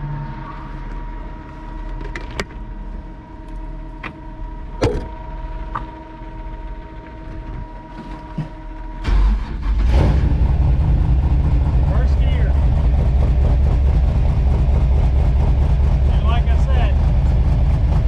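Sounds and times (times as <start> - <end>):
truck whine and rumble: 0.0 - 18.0
loud low rumble: 2.6 - 18.0.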